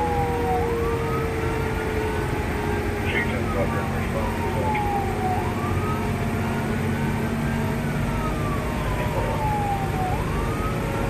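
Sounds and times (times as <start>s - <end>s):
engine and road rumble: 0.0s - 11.0s
fire engine siren wailing: 0.0s - 11.0s.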